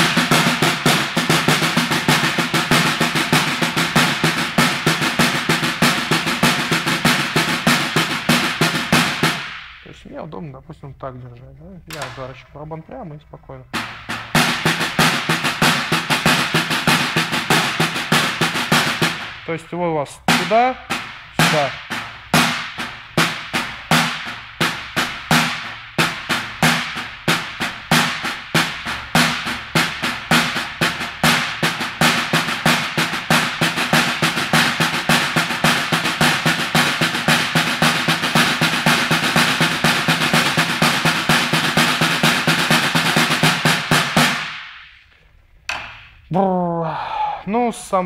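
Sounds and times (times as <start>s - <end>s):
snare drum played with sticks: 0.0s - 10.0s, 11.9s - 12.4s, 13.7s - 45.0s, 45.7s - 46.2s.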